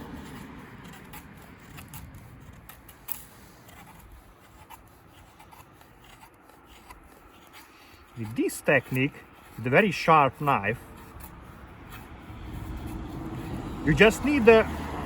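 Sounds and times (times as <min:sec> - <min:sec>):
knife scraping wooden stick: 0:00.0 - 0:15.0.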